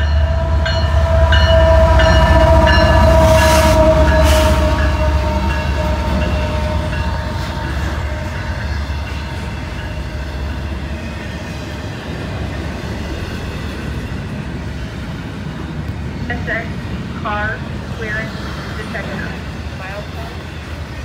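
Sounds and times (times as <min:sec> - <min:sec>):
freight train rumbling and rattling: 0:00.0 - 0:21.0.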